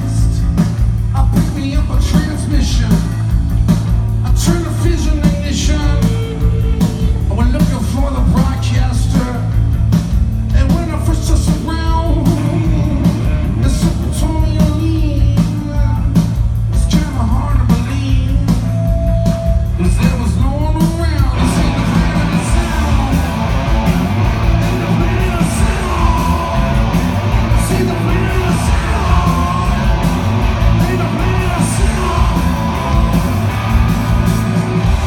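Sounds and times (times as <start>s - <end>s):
person singing lead vocal: 0.0s - 3.2s, 4.2s - 9.7s, 10.5s - 18.7s, 19.8s - 35.0s
bass guitar: 0.0s - 35.0s
drums on a steady beat: 0.0s - 35.0s
electric guitar: 0.0s - 35.0s.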